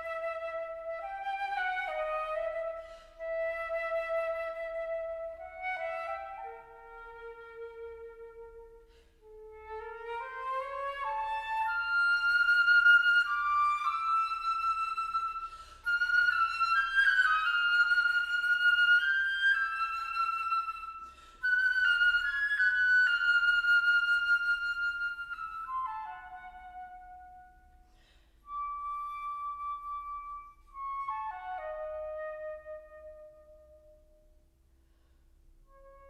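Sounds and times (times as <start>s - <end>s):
solo flute playing: 0.0s - 34.4s, 35.6s - 36.0s.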